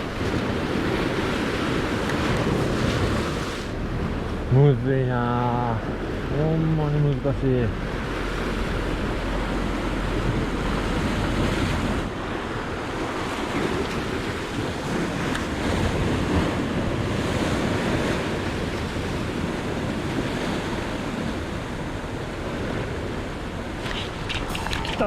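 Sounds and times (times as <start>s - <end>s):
surf washing against rocks: 0.0s - 25.0s
wind rumbling on microphone: 0.0s - 25.0s.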